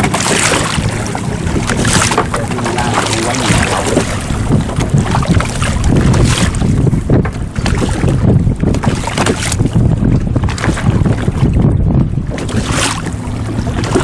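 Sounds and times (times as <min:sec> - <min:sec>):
water splashing against boat: 0:00.0 - 0:14.0
wind buffeting microphone: 0:00.0 - 0:14.0.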